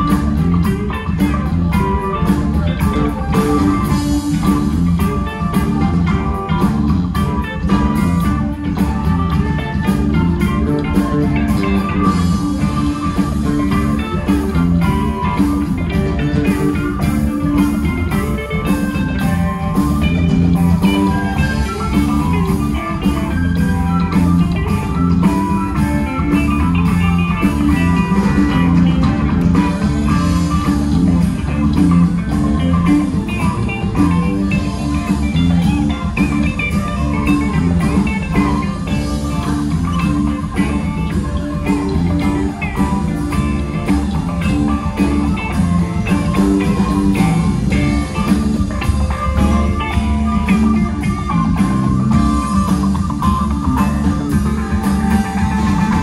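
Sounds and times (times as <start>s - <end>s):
drum kit beat: 0.0s - 56.0s
electric guitar: 0.0s - 56.0s
rock band playing blues: 0.0s - 56.0s.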